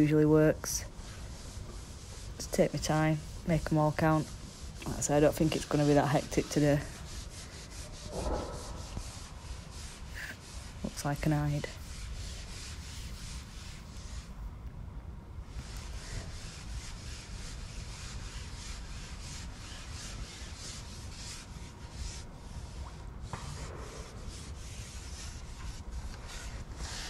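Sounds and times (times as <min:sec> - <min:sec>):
rubbing and rustling: 0:00.0 - 0:14.4, 0:15.5 - 0:27.0.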